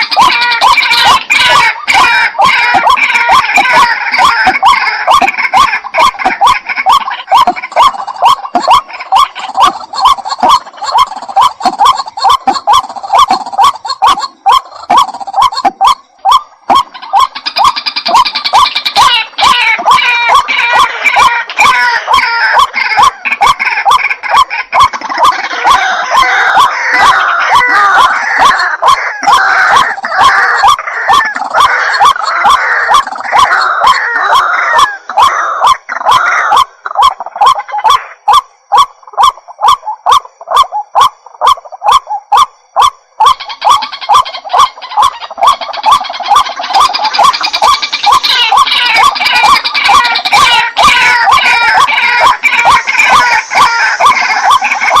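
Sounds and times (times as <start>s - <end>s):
waterhen calling harsh notes: 0.0s - 55.0s.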